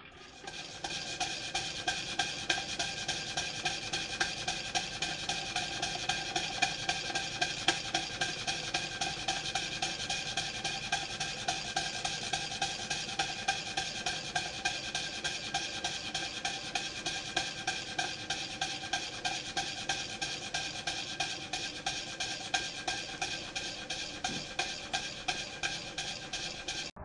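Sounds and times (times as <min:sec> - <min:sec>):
steam engine chuffing: 0:00.4 - 0:27.0
steam hissing: 0:00.5 - 0:26.9.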